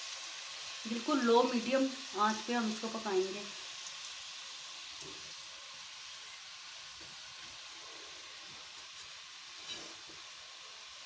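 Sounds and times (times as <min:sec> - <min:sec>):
faint steady sizzle in a pot: 0:00.0 - 0:11.0.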